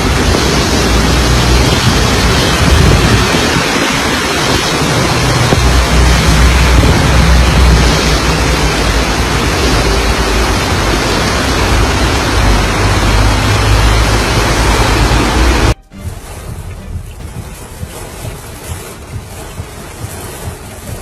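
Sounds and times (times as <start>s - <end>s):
heavy rain pouring: 0.0s - 21.0s
wind buffeting microphone: 0.0s - 21.0s.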